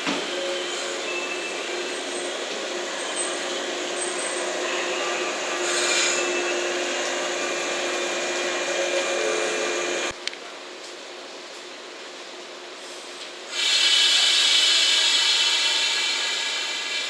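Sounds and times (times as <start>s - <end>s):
electric train rolling: 0.0s - 10.2s, 13.5s - 17.0s.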